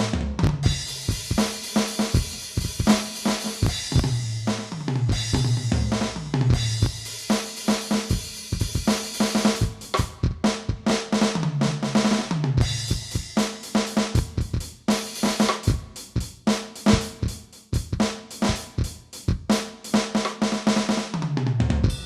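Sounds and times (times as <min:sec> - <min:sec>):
tom fill: 0:00.0 - 0:19.5, 0:21.6 - 0:22.0
electronic drum kit beat: 0:00.0 - 0:20.9, 0:21.8 - 0:22.0.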